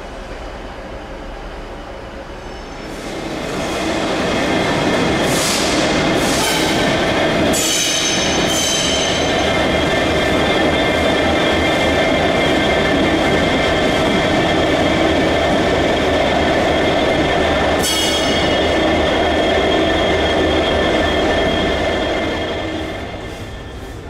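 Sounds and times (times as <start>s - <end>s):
train running past: 0.0s - 24.0s
wheels squealing on rails: 2.3s - 24.0s.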